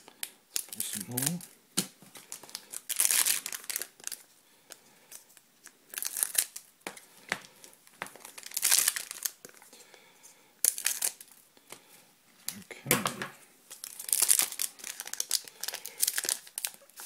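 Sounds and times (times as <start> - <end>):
foil wrappers crinkling: 0.0 - 9.8, 10.6 - 11.4, 13.6 - 17.0.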